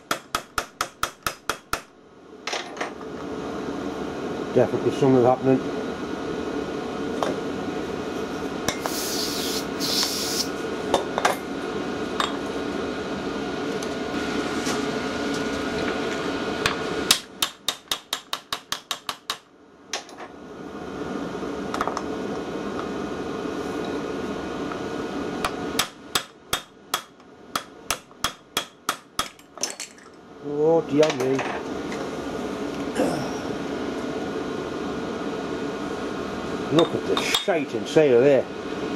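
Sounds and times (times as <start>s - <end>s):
heater humming: 0.0s - 38.9s.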